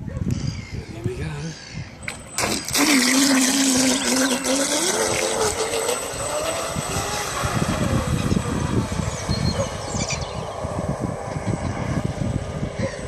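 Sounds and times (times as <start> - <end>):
toy boat electric motor whining: 2.0 - 13.0.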